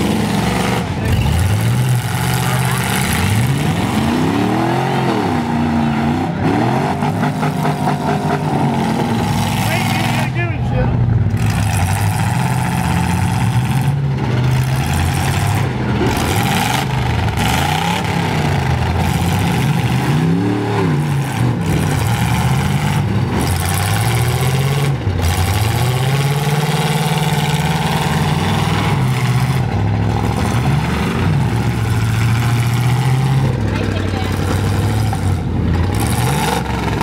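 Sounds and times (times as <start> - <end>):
pickup truck engines revving: 0.0 - 37.0.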